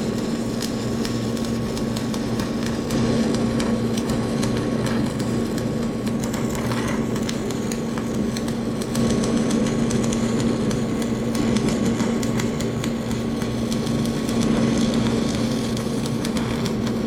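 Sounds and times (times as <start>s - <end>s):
steady hum: 0.0s - 17.0s
welding arc crackling: 0.0s - 17.0s.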